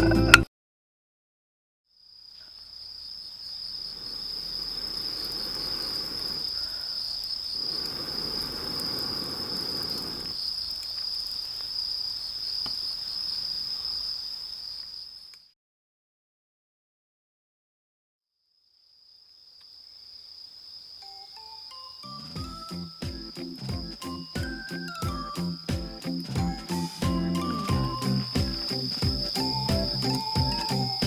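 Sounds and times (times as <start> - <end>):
insects trilling: 1.9 - 15.5, 18.6 - 31.0.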